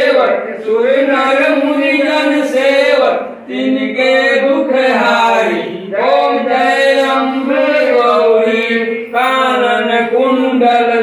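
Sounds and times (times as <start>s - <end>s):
person singing devotional chant: 0.0s - 11.0s.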